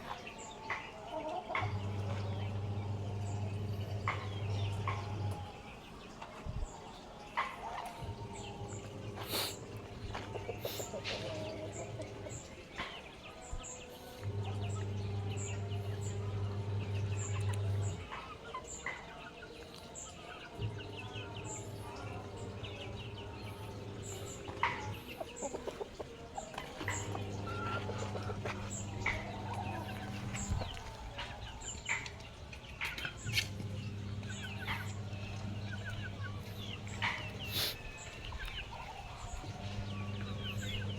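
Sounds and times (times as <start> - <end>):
chickens clucking: 0.0 - 40.9
chicks peeping: 0.0 - 40.9
low steady hum: 0.0 - 40.9.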